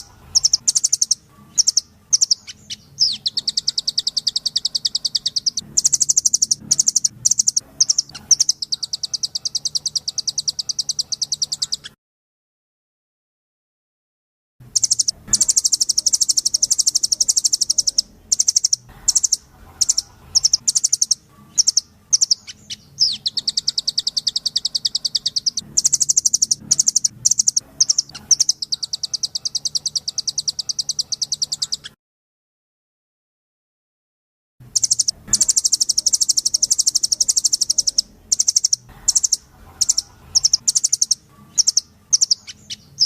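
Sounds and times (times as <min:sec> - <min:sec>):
songbird trills: 0:00.0 - 0:12.0, 0:14.7 - 0:32.0, 0:34.7 - 0:43.0.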